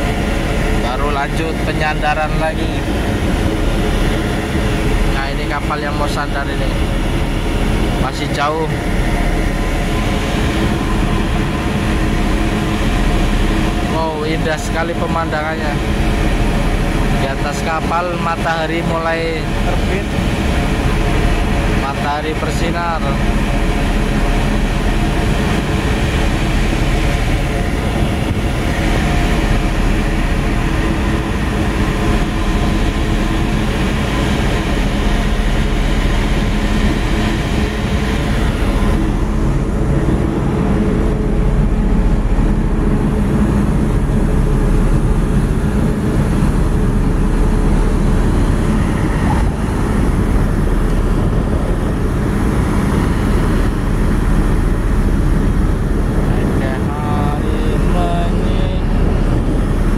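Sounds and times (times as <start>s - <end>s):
diesel engines droning: 0.0s - 59.9s
wind and sea hiss: 0.0s - 59.9s.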